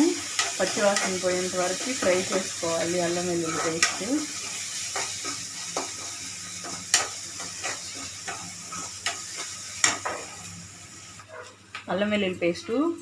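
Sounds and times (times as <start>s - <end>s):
onions sizzling in hot oil: 0.0s - 11.5s.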